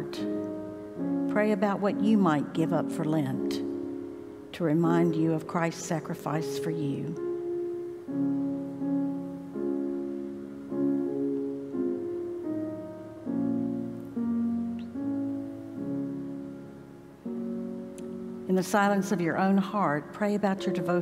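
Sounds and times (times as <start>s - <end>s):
soft slow piano chords: 0.0s - 21.0s.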